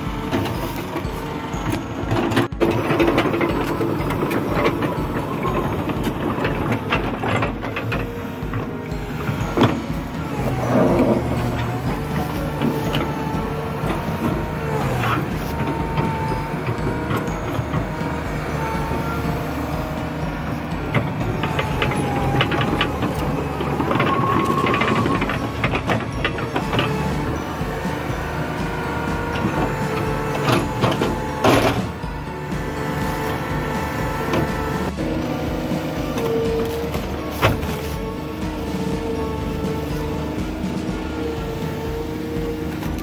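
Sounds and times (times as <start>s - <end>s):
diesel engine running: 0.0s - 43.0s
steel track chains clanking: 0.0s - 43.0s.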